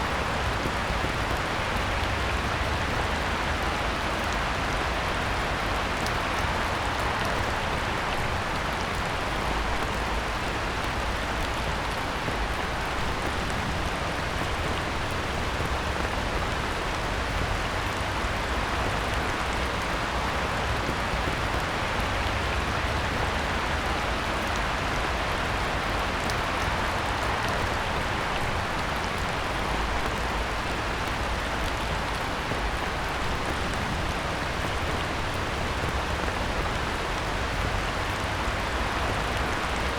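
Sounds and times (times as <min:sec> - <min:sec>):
heavy rain on a pond: 0:00.0 - 0:39.9.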